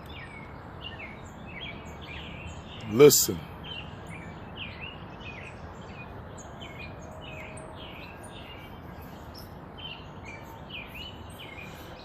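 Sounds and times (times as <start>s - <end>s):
outdoor background noise: 0.0s - 12.0s
songbirds chirping: 0.0s - 12.0s.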